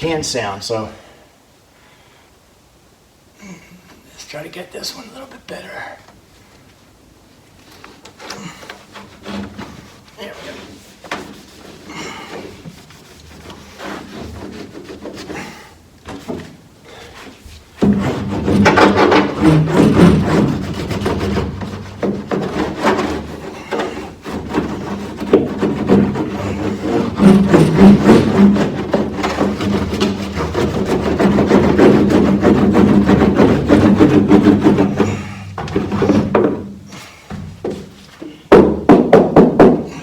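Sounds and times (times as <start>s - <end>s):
rubbing and scraping on sheet metal: 7.6s - 40.0s.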